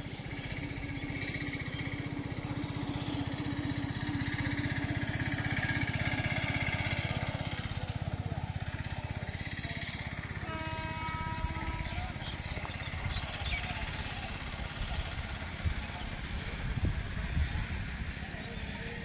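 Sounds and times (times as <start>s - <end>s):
engine running with low pulse: 0.0s - 19.0s.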